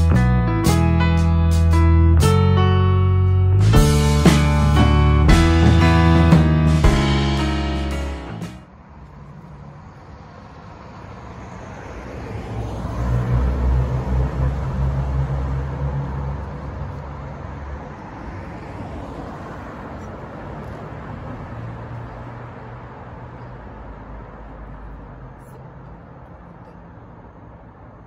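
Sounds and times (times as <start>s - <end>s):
low traffic hum: 0.0s - 28.0s
vehicle passing: 2.7s - 25.3s.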